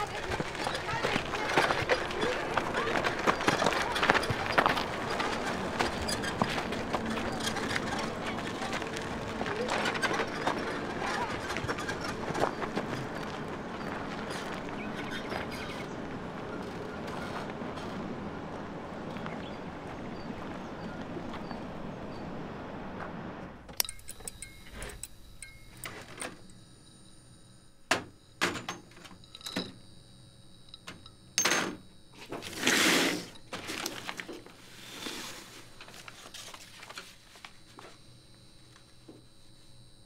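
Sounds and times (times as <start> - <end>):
outdoor background rumble: 0.0 - 40.0.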